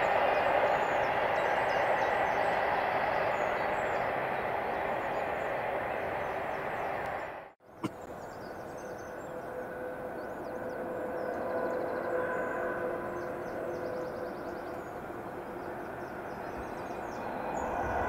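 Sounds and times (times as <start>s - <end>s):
freight train rumbling: 0.0s - 18.0s.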